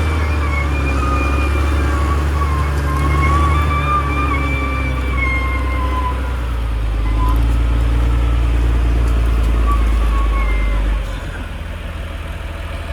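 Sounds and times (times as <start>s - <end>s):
bulldozer diesel engine running: 0.0s - 12.9s.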